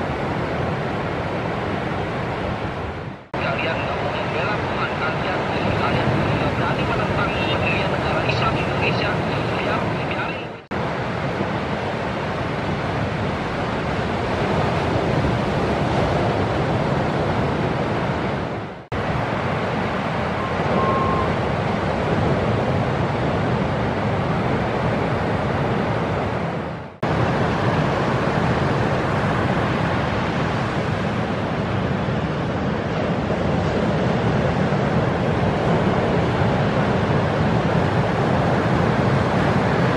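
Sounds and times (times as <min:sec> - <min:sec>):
ocean waves breaking: 0:00.0 - 0:39.9
wind buffeting microphone: 0:00.0 - 0:39.9.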